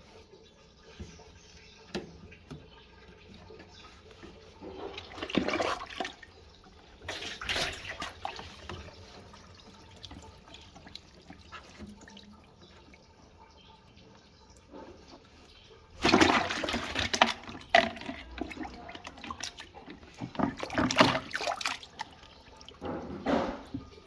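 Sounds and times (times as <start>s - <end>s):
water gushing: 0.0s - 24.0s.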